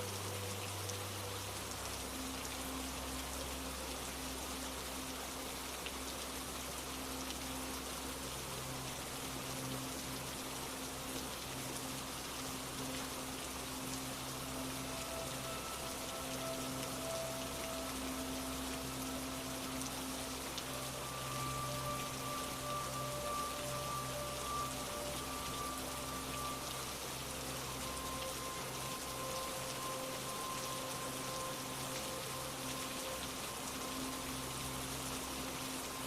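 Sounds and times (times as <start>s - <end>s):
rain falling on a surface: 0.0s - 36.0s
soft low sustained notes: 0.0s - 36.0s.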